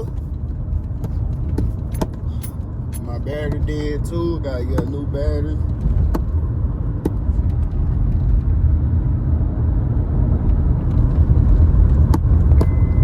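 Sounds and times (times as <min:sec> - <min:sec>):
car rumbling on the move: 0:00.0 - 0:13.0.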